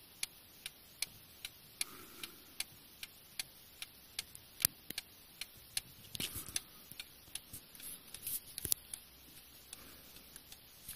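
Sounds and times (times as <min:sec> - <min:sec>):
clock ticking: 0:00.0 - 0:10.9.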